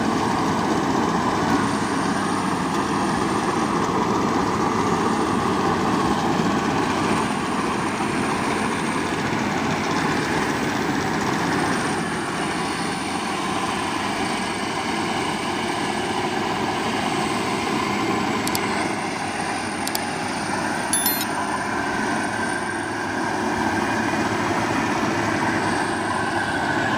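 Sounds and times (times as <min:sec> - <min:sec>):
farm machinery engine drone: 0:00.0 - 0:26.9.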